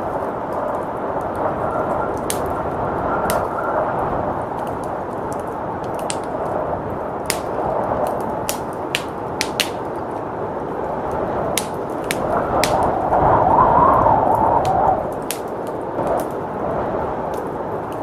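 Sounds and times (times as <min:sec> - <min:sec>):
blizzard wind rushing: 0:00.0 - 0:18.0
wood fire crackling: 0:00.0 - 0:18.0.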